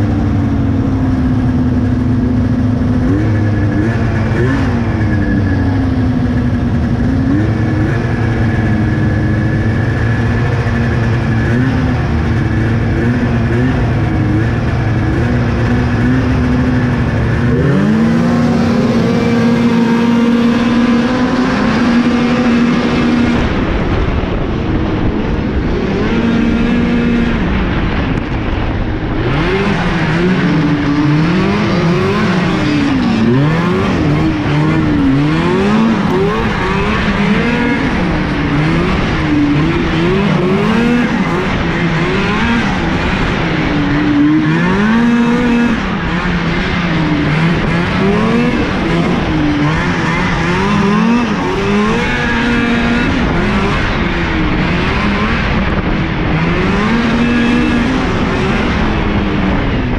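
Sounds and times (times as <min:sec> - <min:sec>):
snowmobile engine revving high: 0:00.0 - 0:59.9
snowmobile engines idling: 0:00.0 - 0:59.9.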